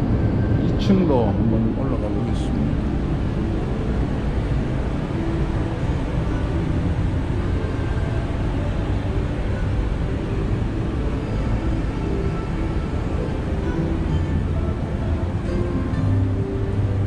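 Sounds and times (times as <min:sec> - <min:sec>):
low rumble of background noise: 0:00.0 - 0:17.0.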